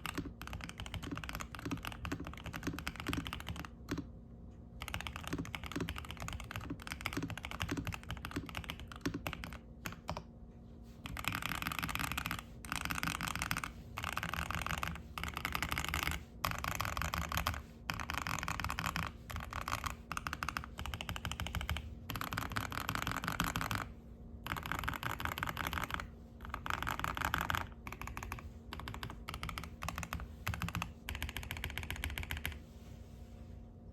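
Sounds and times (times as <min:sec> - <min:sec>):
mechanical keyboard typing: 0:00.0 - 0:04.1, 0:04.8 - 0:10.3, 0:11.0 - 0:32.6.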